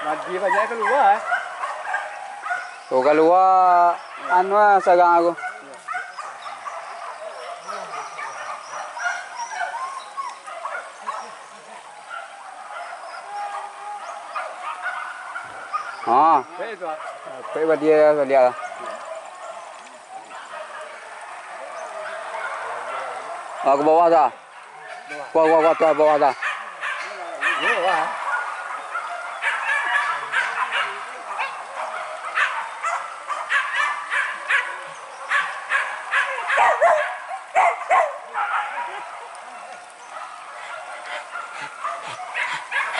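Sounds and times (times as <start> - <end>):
dogs yelping and barking: 0.0 - 42.9.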